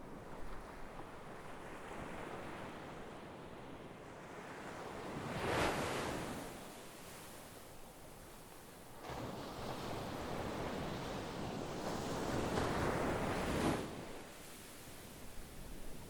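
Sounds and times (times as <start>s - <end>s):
sea waves breaking on shore: 0.0s - 7.5s, 9.0s - 15.9s.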